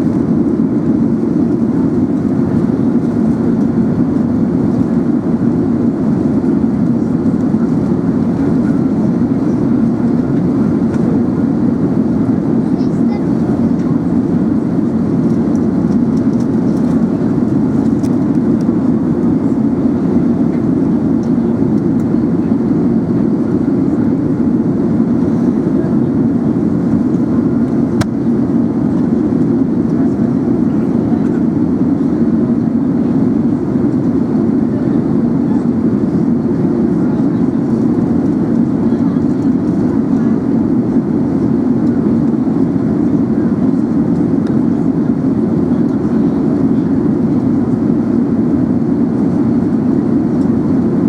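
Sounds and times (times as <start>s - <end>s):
airplane cabin noise: 0.0s - 51.0s.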